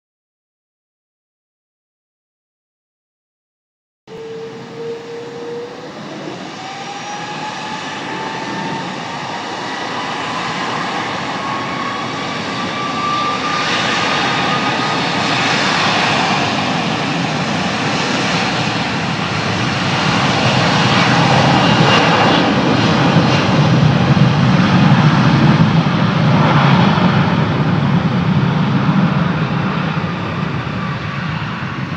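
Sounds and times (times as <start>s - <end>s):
jet engines spooling up: 4.1s - 31.9s.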